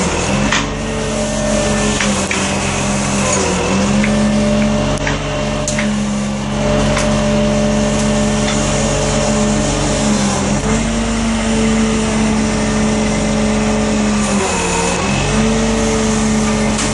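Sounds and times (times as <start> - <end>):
log loader engine under load: 0.0 - 16.9.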